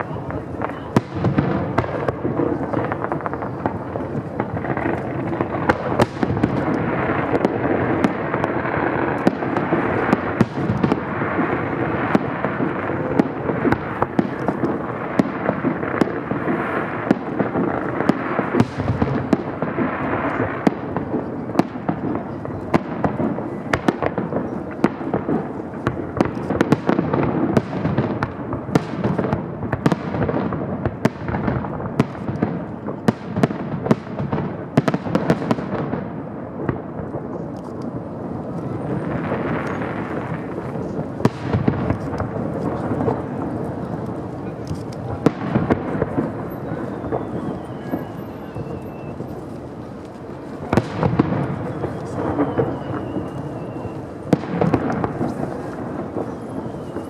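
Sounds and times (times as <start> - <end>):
fireworks bangs and crackles: 0.0 - 57.0
rumble of fireworks bursts: 0.0 - 57.0.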